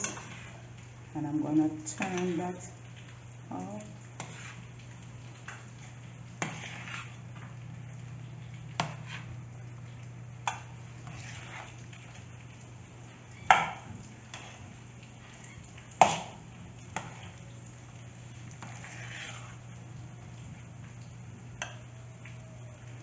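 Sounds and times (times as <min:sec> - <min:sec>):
soft mixing: 0:00.0 - 0:23.0.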